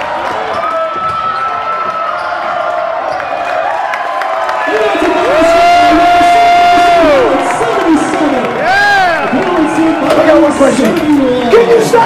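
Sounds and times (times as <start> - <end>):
crowd cheering: 0.0 - 12.0.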